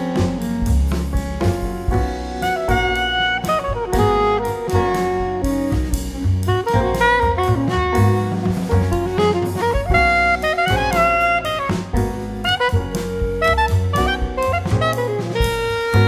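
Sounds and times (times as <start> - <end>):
saxophone melody: 0.0 - 0.8, 2.3 - 16.0
drum kit: 0.0 - 16.0.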